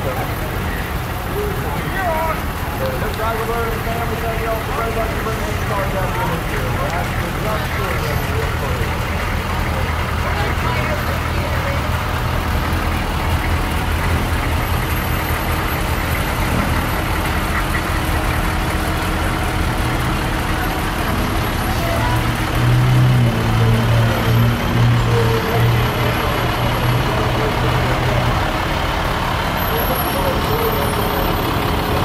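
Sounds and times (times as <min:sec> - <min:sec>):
fire truck diesel engines: 0:00.0 - 0:32.0.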